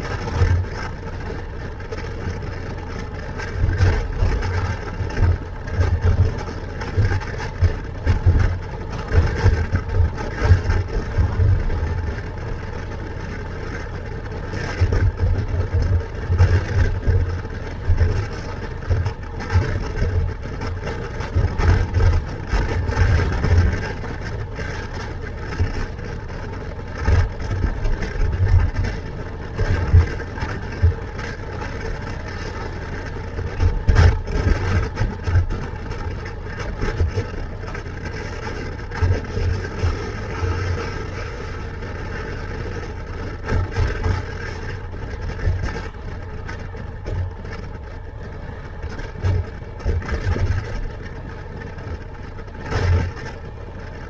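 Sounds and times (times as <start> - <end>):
motorcycle engine at road speed: 0.0 - 54.0.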